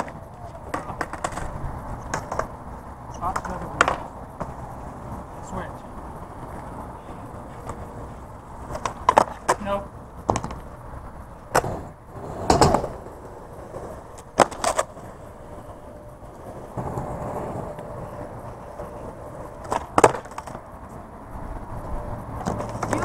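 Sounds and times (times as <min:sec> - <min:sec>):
skateboard clacking on ground: 0:00.0 - 0:05.6, 0:06.5 - 0:10.8, 0:11.4 - 0:21.1, 0:21.8 - 0:23.0
skateboard wheels rolling: 0:00.0 - 0:23.0.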